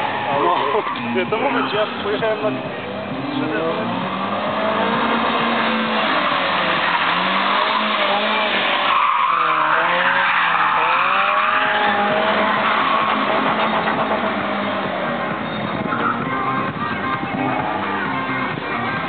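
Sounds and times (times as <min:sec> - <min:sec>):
tyres squealing: 0:00.0 - 0:17.9
car engine revving: 0:00.0 - 0:19.0.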